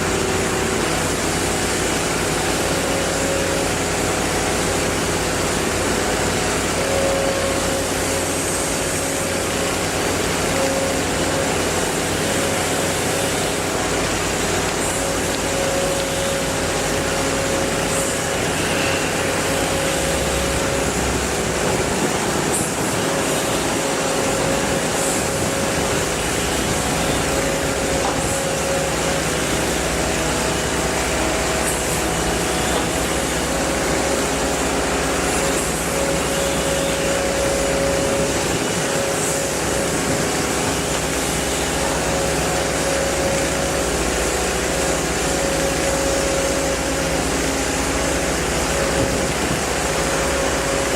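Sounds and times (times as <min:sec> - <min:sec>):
machine humming: 0:00.0 - 0:50.9.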